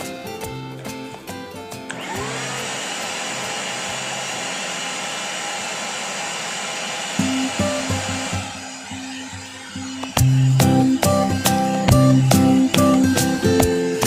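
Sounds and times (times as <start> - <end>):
vacuum cleaner motor whining: 1.9 - 14.0.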